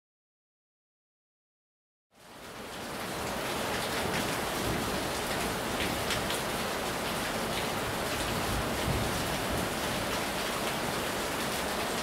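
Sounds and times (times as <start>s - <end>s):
heavy rain on tiles: 2.1s - 12.0s.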